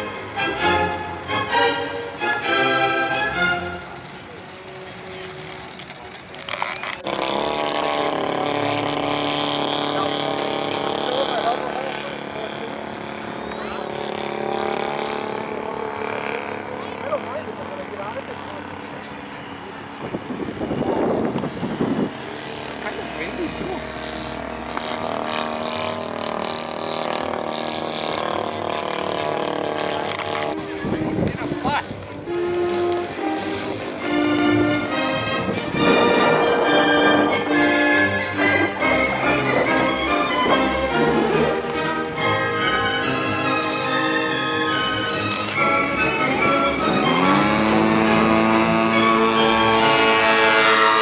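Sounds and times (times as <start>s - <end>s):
model airplane engine running: 0.0s - 51.0s.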